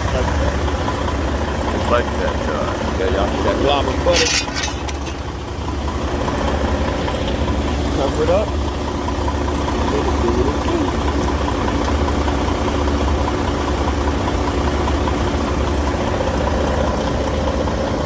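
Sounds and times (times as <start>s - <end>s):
diesel truck engines idling: 0.0s - 18.0s.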